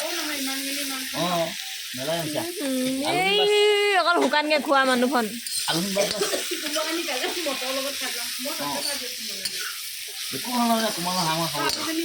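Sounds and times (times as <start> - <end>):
people's voices: 0.0 - 9.7
meat and potatoes sizzling in pan: 0.0 - 12.0.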